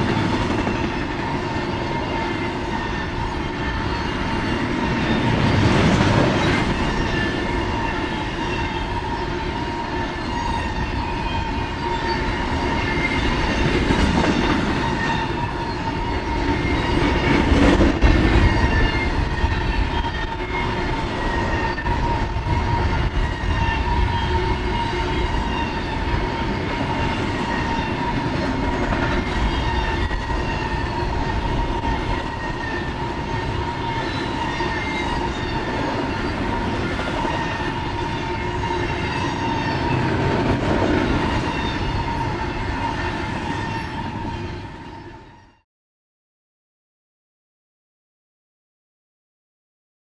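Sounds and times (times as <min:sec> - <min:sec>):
train wheels rumbling on rails: 0:00.0 - 0:45.4.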